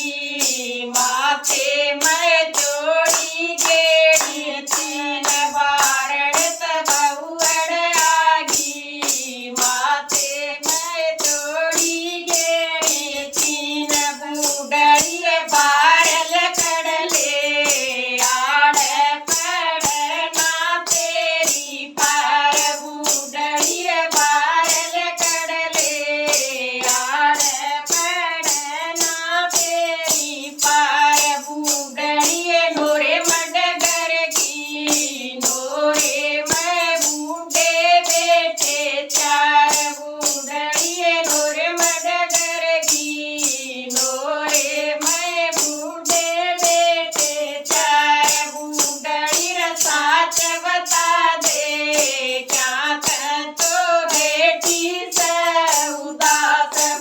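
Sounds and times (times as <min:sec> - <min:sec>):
jingling beat: 0:00.0 - 0:57.0
woman singing: 0:00.0 - 0:57.0.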